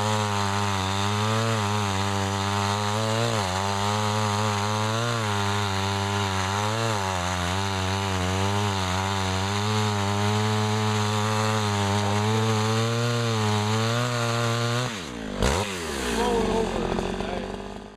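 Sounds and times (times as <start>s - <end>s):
chainsaw engine running: 0.0s - 17.9s.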